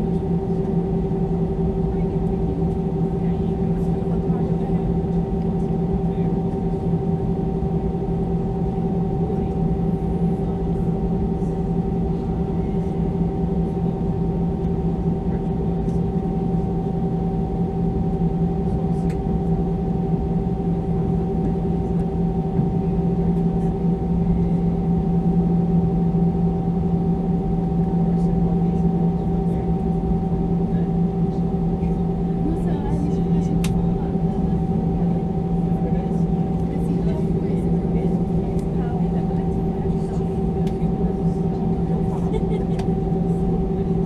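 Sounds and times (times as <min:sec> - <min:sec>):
aircraft cabin low rumble: 0:00.0 - 0:44.0
steady hum tones: 0:00.0 - 0:44.0.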